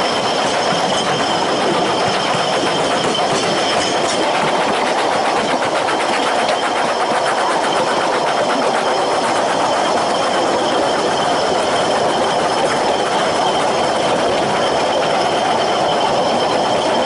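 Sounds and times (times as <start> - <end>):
train rattling over track: 0.0 - 17.0.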